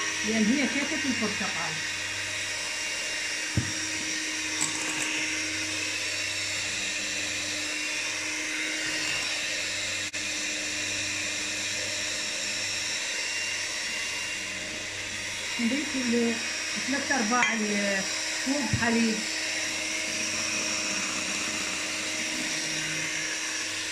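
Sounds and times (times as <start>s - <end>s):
electric hand mixer whisking batter: 0.0s - 23.9s.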